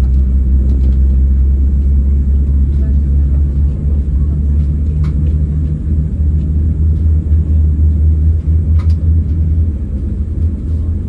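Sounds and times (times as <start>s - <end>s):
jet engines rumbling from cabin: 0.0s - 11.0s.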